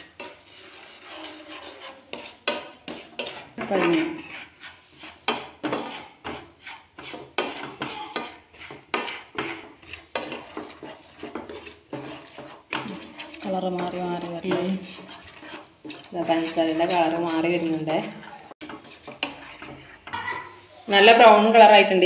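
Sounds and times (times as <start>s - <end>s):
spatula scraping frying pan: 0.0s - 21.8s.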